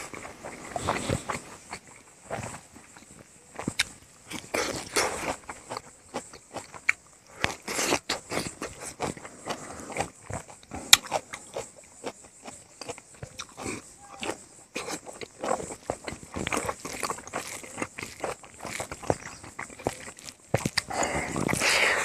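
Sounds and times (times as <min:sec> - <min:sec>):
man chewing food: 0:00.0 - 0:22.0.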